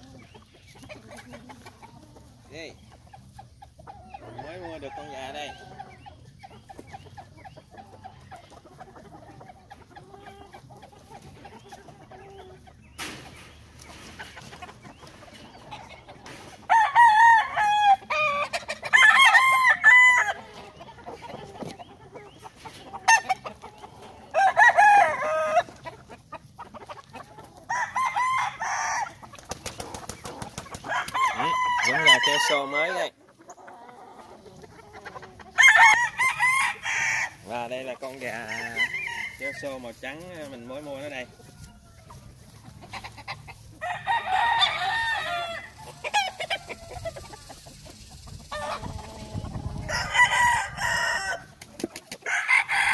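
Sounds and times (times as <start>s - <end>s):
quiet animal pen sounds: 0.0s - 52.9s
roosters crowing: 0.0s - 52.9s.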